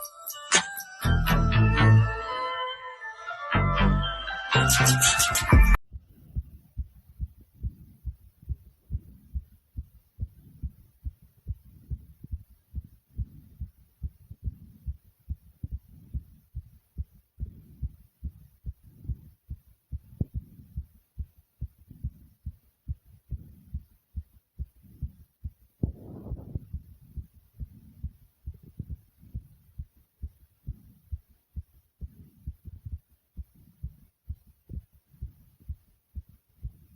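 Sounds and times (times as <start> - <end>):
fast heartbeat: 5.5 - 36.9.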